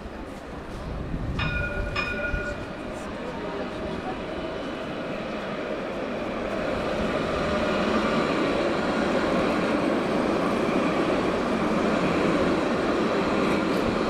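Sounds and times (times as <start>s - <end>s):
tram rumbling past: 0.0s - 14.0s.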